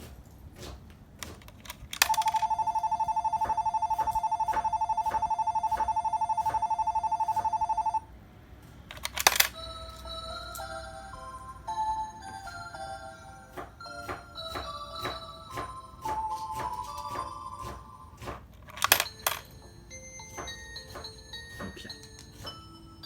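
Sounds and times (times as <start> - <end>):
electronic bell trill: 2.1 - 8.0, 9.5 - 18.2, 19.0 - 23.0
electronic chime melody: 2.1 - 8.0, 9.5 - 18.2, 19.1 - 23.0.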